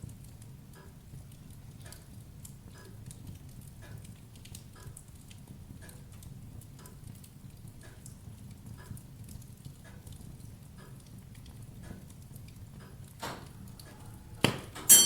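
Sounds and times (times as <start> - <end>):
fire low rumble: 0.0 - 14.9
fire crackling: 0.0 - 15.0.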